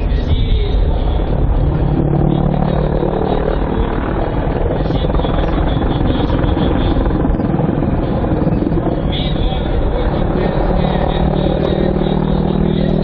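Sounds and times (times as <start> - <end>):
helicopter rotor and engine: 0.0 - 13.0
low hum: 0.0 - 13.0.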